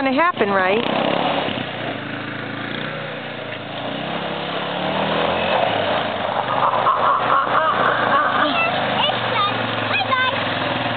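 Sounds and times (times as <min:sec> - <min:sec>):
quad bike engine running: 0:00.0 - 0:10.9.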